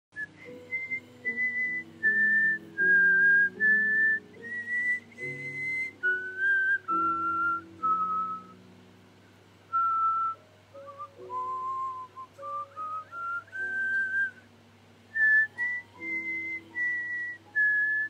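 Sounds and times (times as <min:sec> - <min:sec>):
woman whistling a tune: 0:00.2 - 0:08.6, 0:09.7 - 0:14.5, 0:15.1 - 0:18.0
faint background music: 0:00.2 - 0:18.0.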